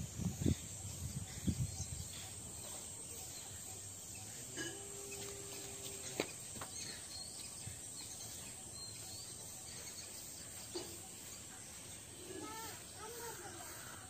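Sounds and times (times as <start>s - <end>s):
high insect hum: 0.0s - 14.0s.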